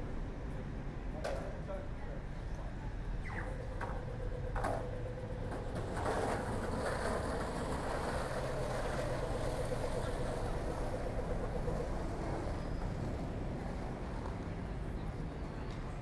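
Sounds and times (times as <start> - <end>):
street traffic rumble: 0.0 - 16.0
bus engine humming: 1.9 - 16.0.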